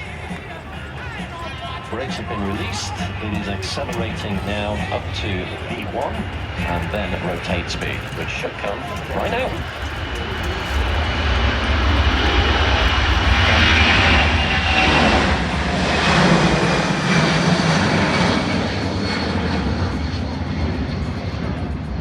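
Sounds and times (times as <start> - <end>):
jet engines at takeoff thrust: 0.0 - 22.0.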